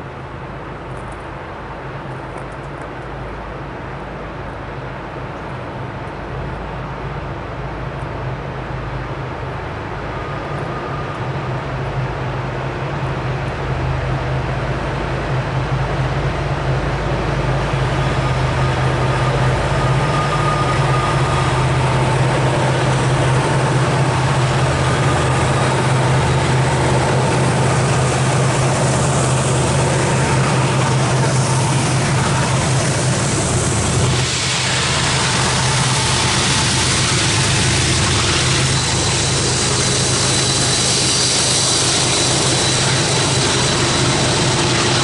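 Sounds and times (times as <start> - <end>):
diesel locomotive engines droning: 0.0 - 45.0.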